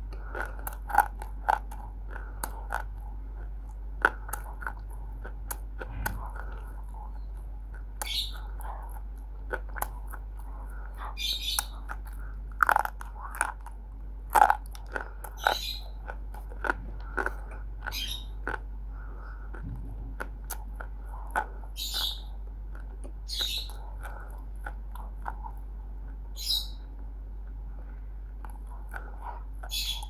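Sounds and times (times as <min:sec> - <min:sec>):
clay being chewed with crunches: 0:00.0 - 0:30.0.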